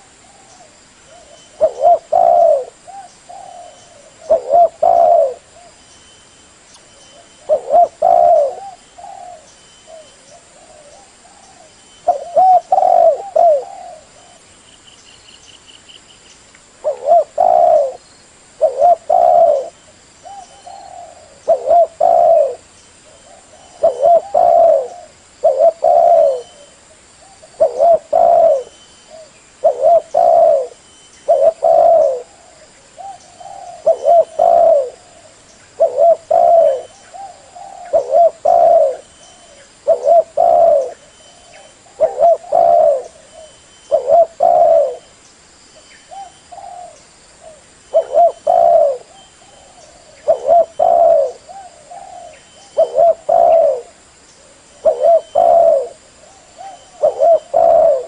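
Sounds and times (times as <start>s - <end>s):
dove cooing: 0.0s - 5.8s, 7.1s - 14.4s, 16.8s - 18.0s, 18.6s - 45.1s, 46.1s - 58.0s.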